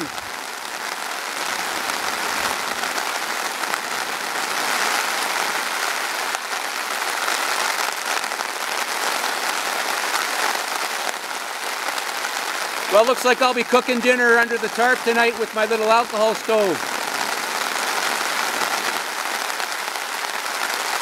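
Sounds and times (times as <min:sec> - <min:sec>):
rain falling on forest: 0:00.0 - 0:21.0
rain pattering on a tarp: 0:00.0 - 0:21.0.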